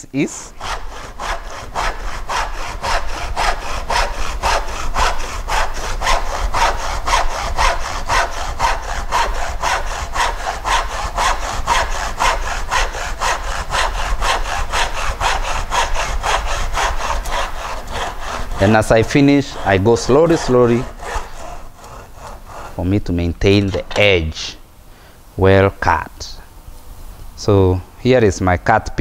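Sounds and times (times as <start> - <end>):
saw cutting wood: 0.0 - 24.5.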